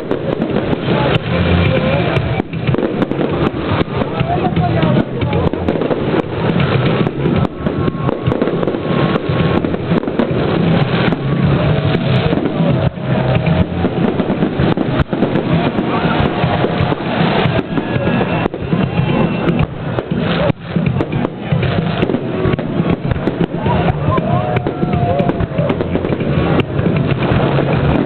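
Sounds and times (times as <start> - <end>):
fireworks bangs and crackles: 0.0 - 28.0
loud constant din: 0.0 - 28.0.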